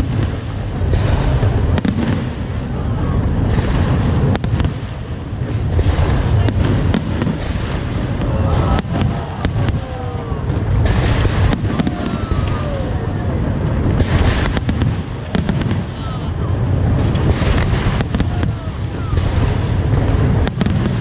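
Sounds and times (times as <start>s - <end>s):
deep rolling rumble: 0.0s - 21.0s
fireworks crackling: 0.0s - 21.0s
fireworks cracks and bangs: 0.0s - 21.0s.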